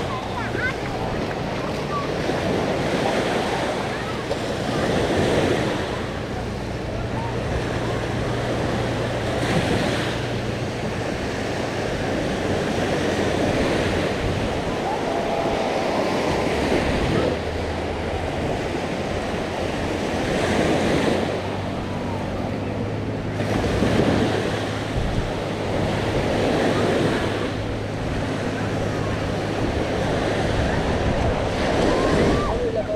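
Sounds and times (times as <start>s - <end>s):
surf washing onto beach: 0.0s - 32.9s
wind rumbling on microphone: 0.0s - 32.9s.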